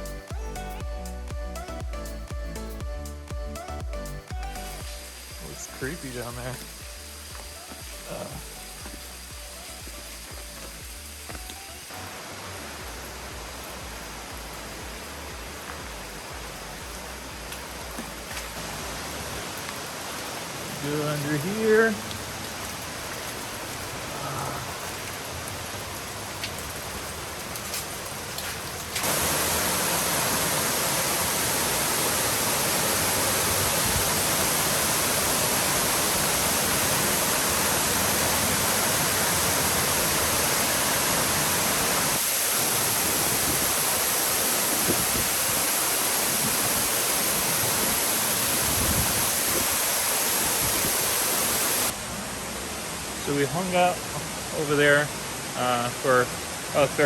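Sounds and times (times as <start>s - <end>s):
waterfall rushing: 3.6s - 57.0s.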